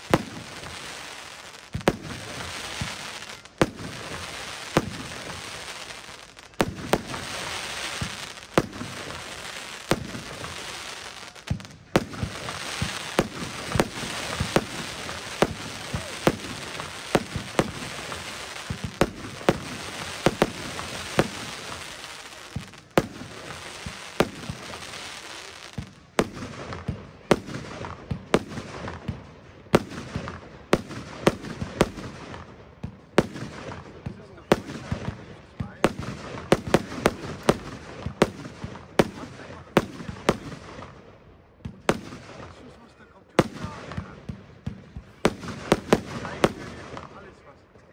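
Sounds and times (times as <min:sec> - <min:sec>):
firework hiss and crackle: 0:00.0 - 0:41.0, 0:45.0 - 0:47.2
firework bangs: 0:00.0 - 0:47.4.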